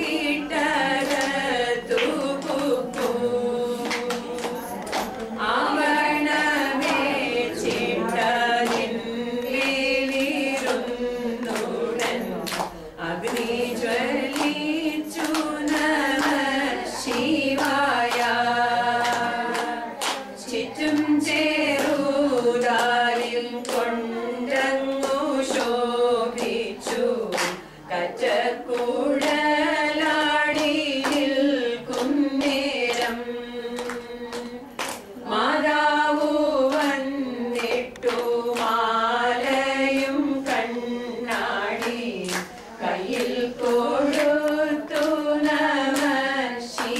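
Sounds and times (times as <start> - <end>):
hand claps: 0.0 - 46.9
women singing in unison: 0.0 - 46.9.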